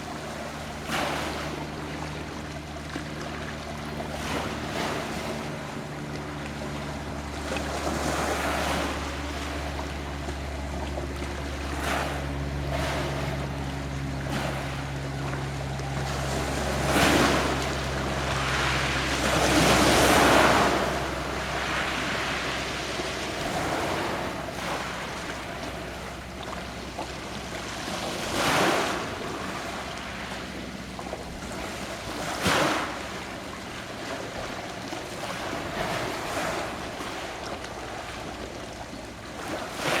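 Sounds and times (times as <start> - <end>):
low steady hum: 0.0 - 40.0
waves washing ashore: 0.0 - 40.0.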